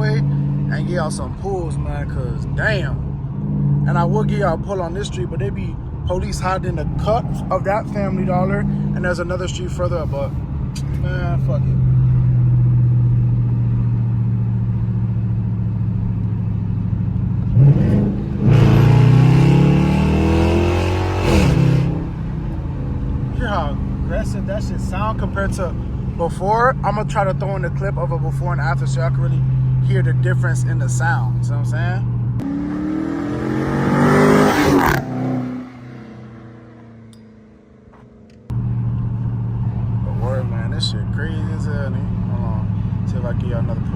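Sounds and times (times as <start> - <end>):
car engine drone and acceleration: 0.0 - 43.9.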